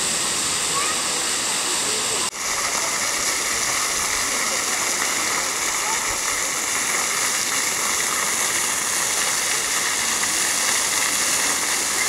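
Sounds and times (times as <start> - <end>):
fountain water splashing on paving: 0.0 - 12.0.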